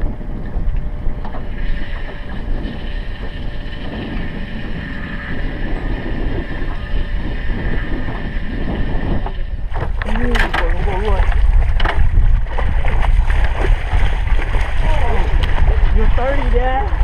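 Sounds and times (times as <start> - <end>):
steady high whine: 0.0 - 17.0
water noise around boat: 0.0 - 17.0
wind rumbling on microphone: 0.0 - 17.0.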